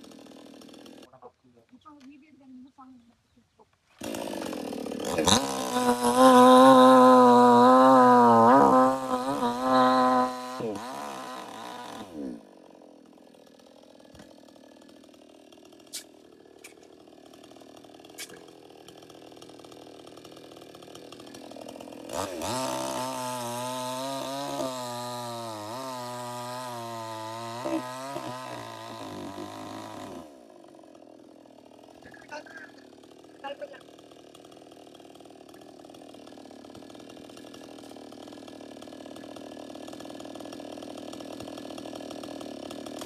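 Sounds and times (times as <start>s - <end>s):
chainsaw revving: 0.0s - 1.1s, 3.9s - 43.0s.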